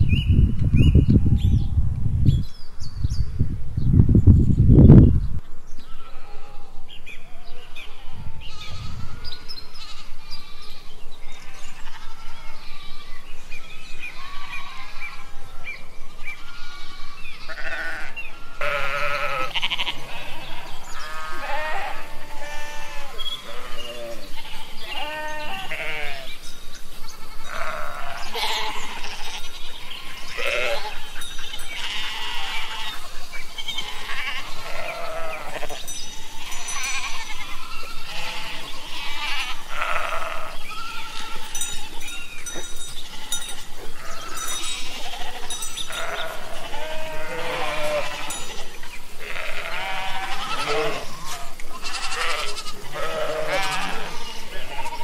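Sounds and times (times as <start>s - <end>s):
goats and sheep bleating: 5.8s - 55.0s.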